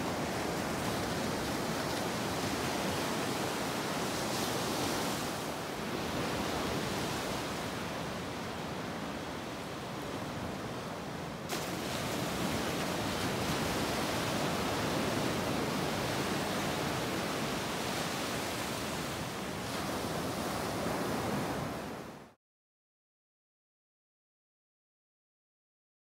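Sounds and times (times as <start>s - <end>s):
waves washing up beach: 0.0s - 22.4s.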